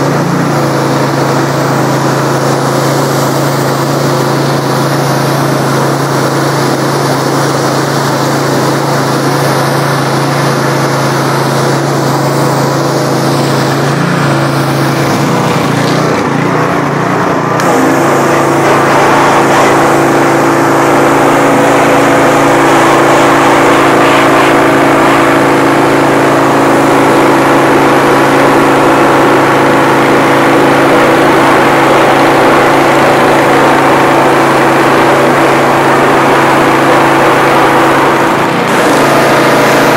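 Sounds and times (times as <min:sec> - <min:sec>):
high-pressure water spray hissing: 0:00.0 - 0:39.9
small engine running: 0:00.0 - 0:39.9.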